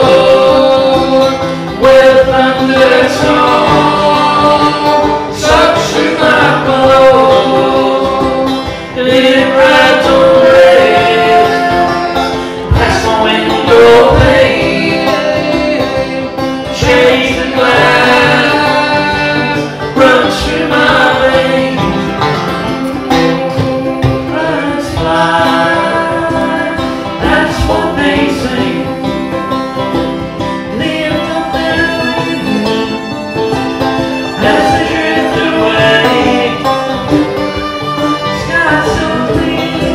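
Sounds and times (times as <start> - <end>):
lead vocal singing: 0.0 - 29.6, 30.5 - 33.3, 34.1 - 39.9
bluegrass band playing: 0.0 - 39.9.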